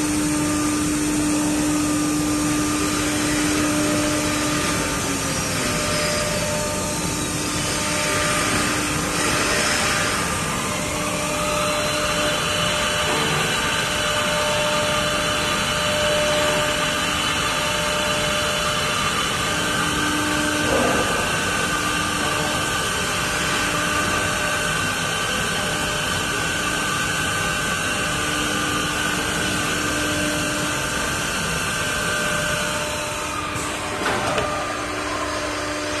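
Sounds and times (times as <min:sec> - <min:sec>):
drilling machine whirring: 0:00.0 - 0:36.0.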